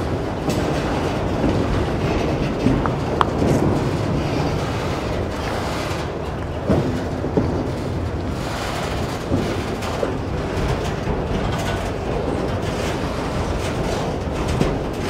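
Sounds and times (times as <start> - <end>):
steel wheels rumbling on rail: 0.0 - 15.0
train cars clunking: 0.0 - 15.0.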